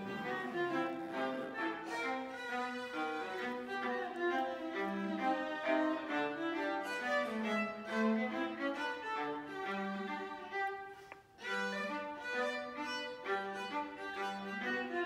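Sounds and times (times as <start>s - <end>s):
violas playing ragtime duet: 0.0s - 15.0s.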